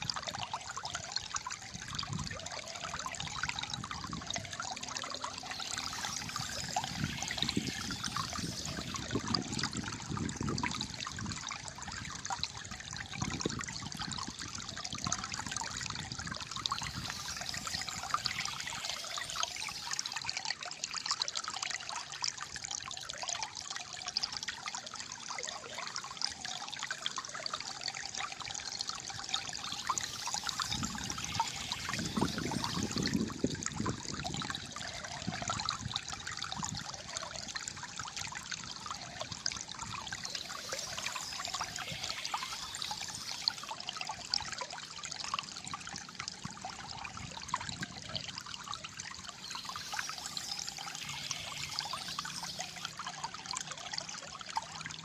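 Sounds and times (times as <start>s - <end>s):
water trickling and gurgling: 0.0s - 55.0s.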